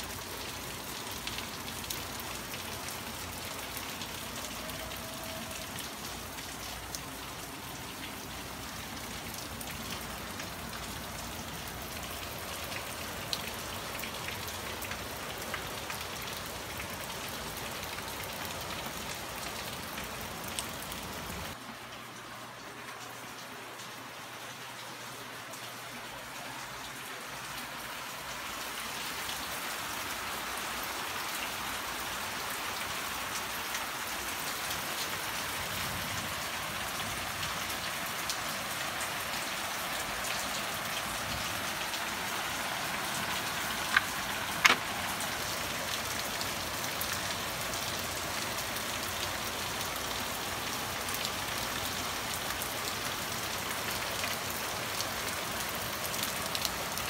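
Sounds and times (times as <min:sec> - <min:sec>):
steady rain on roofs and foliage: 0:00.0 - 0:57.0.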